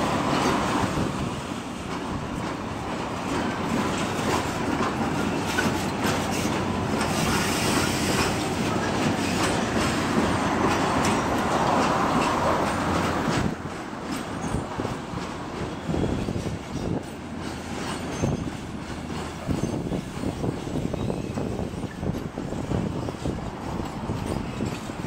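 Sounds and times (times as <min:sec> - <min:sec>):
freight wagons rumbling: 0:00.0 - 0:25.0
train wheels clacking on rail joints: 0:00.0 - 0:25.0.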